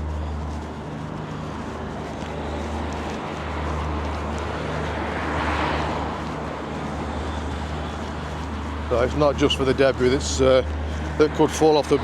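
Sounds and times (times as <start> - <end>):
vehicle passing: 0.0 - 12.0.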